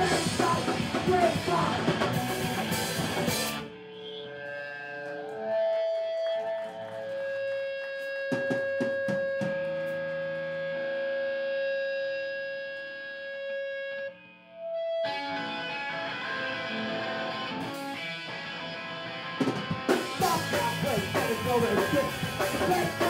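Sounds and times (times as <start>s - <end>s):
rock band playing: 0.0s - 11.7s, 15.0s - 23.0s
electric guitar single notes: 1.9s - 23.0s.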